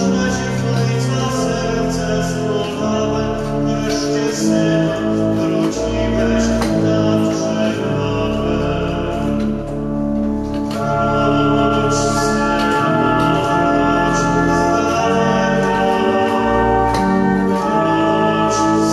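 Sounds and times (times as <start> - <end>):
man singing: 0.0 - 9.8, 10.6 - 18.9
organ chords: 0.0 - 18.9.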